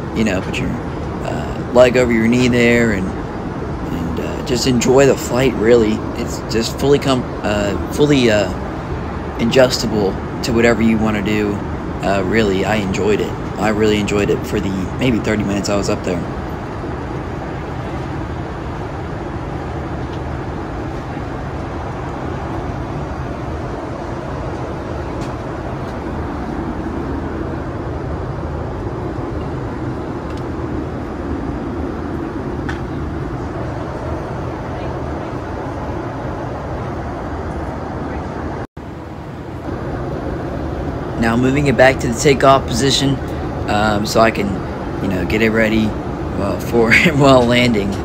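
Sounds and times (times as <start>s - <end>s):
airplane cabin noise: 0.0s - 48.0s.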